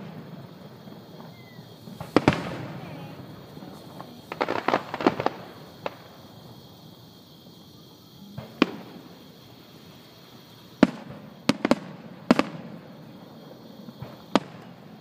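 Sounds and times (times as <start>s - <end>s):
fireworks bangs and crackles: 0.0s - 15.0s
fireworks booms: 0.0s - 15.0s.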